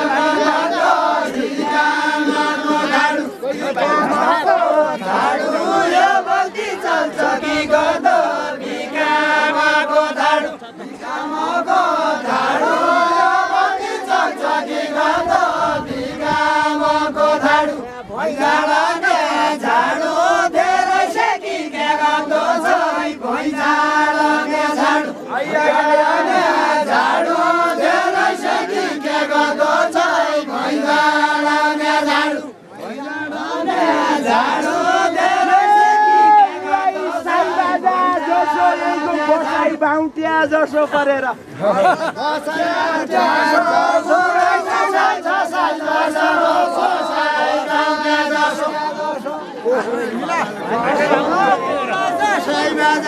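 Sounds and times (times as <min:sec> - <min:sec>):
group singing without instruments: 0:00.0 - 0:39.9, 0:41.5 - 0:53.0.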